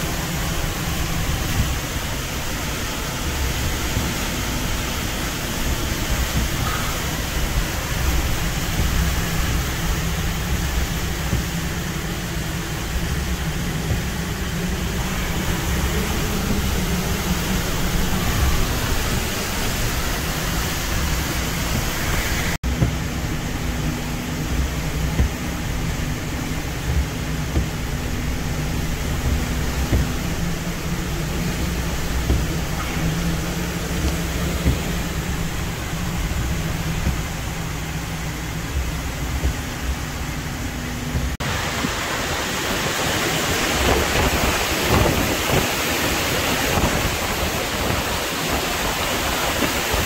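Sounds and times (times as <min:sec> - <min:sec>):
driving rain on a truck: 0:00.0 - 0:50.0
wind buffeting a truck: 0:00.0 - 0:50.0.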